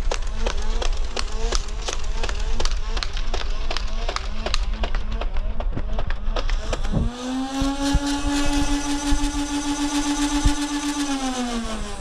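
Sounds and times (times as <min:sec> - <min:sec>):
flywheel motor whine: 0:00.0 - 0:12.0.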